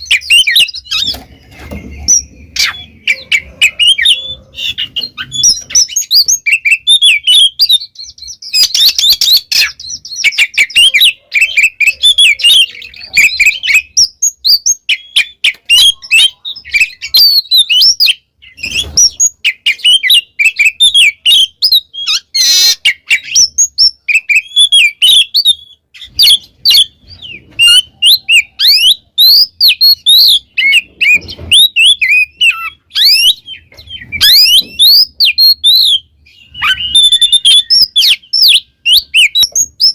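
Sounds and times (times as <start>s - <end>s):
bird singing: 0.0s - 39.9s
harsh rasping bird calls: 0.0s - 39.9s.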